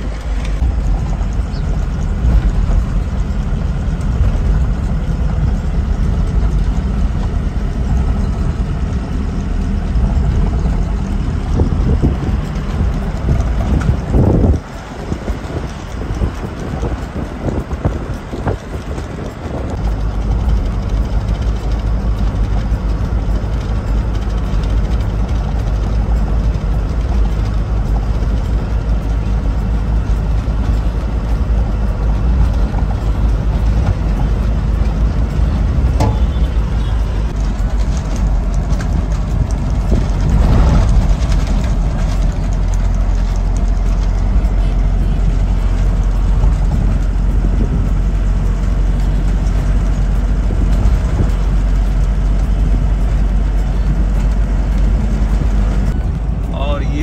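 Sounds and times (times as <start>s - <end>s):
road noise: 0.0s - 57.0s
truck engine rumble: 0.0s - 57.0s
wind buffeting microphone: 0.0s - 57.0s.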